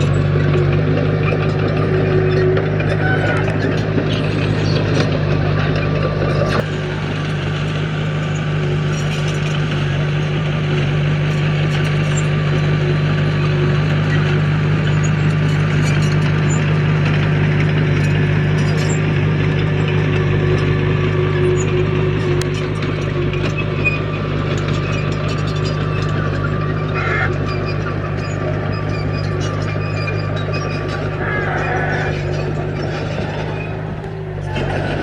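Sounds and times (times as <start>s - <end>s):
earthmoving machine diesel engine: 0.0s - 35.0s.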